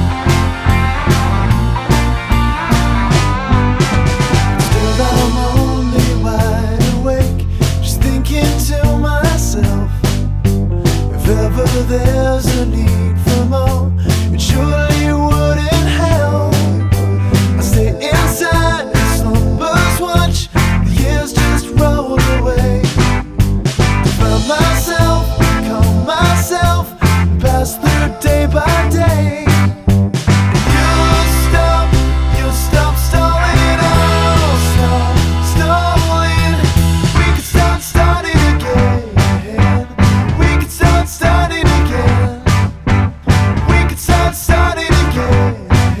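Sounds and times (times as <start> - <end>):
rock song with singing: 0.0 - 46.0.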